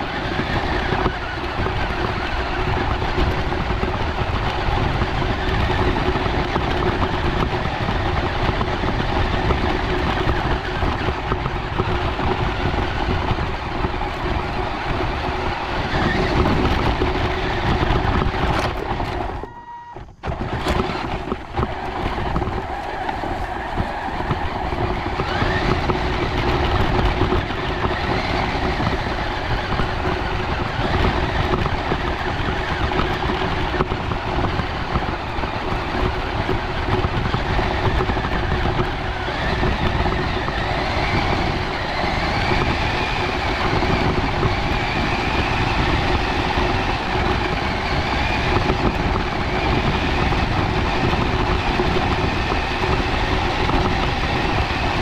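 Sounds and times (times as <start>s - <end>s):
rc car motor and gears whining: 0.0s - 55.0s.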